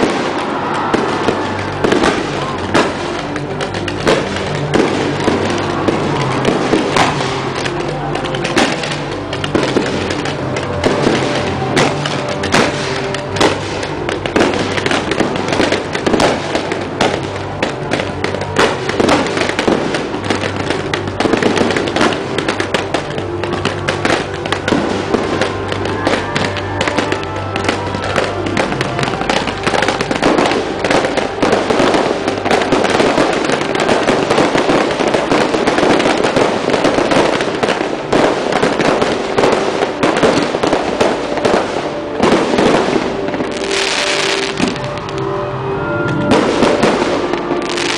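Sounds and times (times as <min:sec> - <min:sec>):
fireworks bangs and crackling: 0:00.0 - 0:47.9
music playing: 0:00.0 - 0:47.9.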